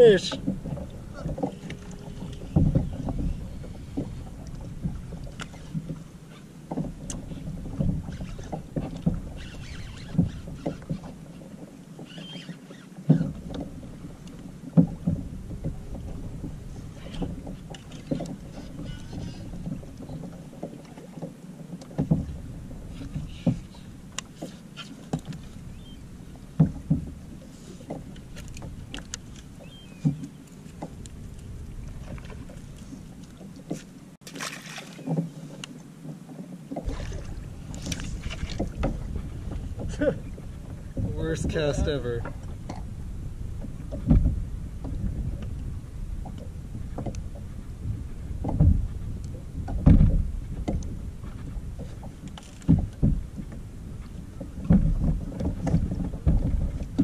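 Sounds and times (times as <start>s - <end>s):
knocks and clicks on hull: 0.0s - 57.0s
water lapping against plastic hull: 0.0s - 57.0s.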